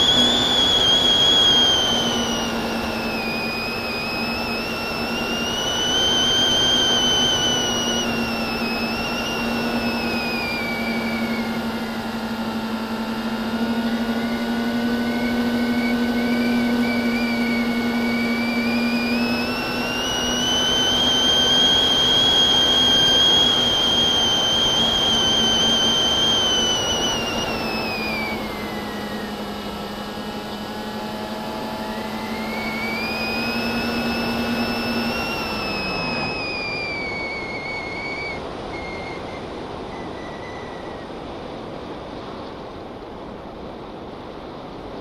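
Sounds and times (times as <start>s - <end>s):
drone motors whining: 0.0s - 42.5s
steady low hum: 0.0s - 45.0s.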